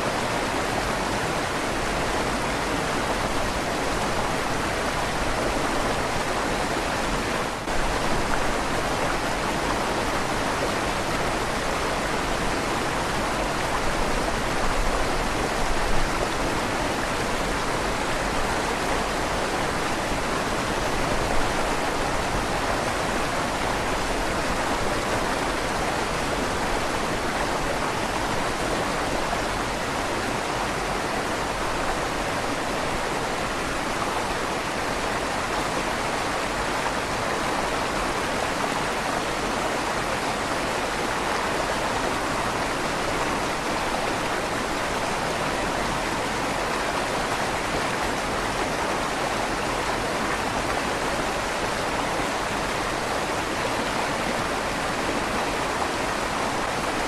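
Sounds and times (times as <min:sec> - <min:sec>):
river water rushing in tunnel: 0:00.0 - 0:57.0.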